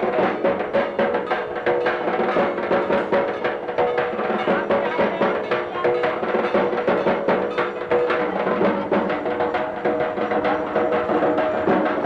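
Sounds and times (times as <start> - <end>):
quick dense drum strokes: 0.0 - 12.0.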